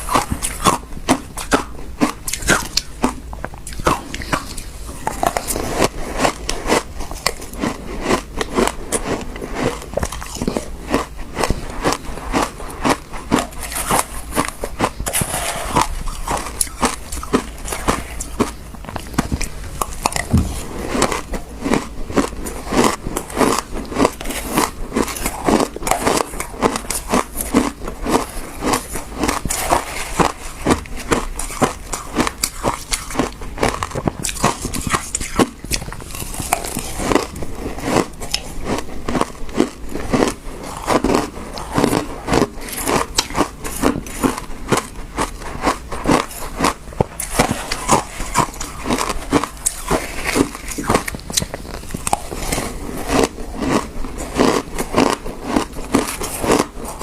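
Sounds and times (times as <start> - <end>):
teeth crunching frozen fruit: 0.0 - 57.0.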